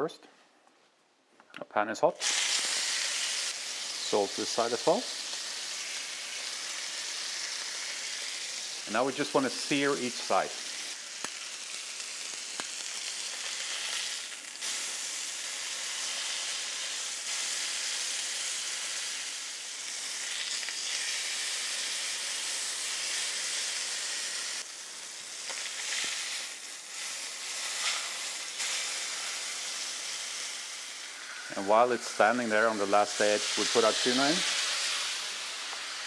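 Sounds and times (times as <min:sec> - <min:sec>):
meat sizzling in a frying pan: 0:02.2 - 0:36.0.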